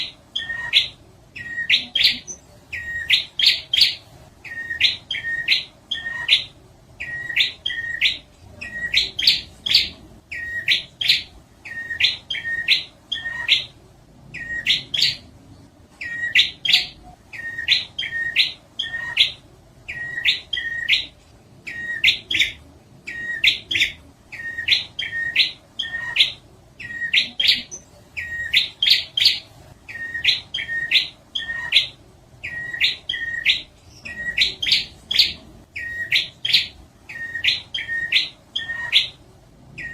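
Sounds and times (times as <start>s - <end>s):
bird chattering song: 0.0s - 13.8s, 14.4s - 15.3s, 16.0s - 39.2s.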